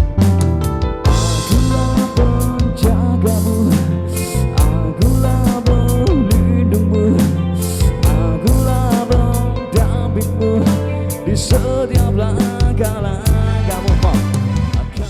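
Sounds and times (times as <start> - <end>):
drum kit beat: 0.0 - 15.0
pop-rock song: 0.0 - 15.0
person singing: 1.1 - 15.0.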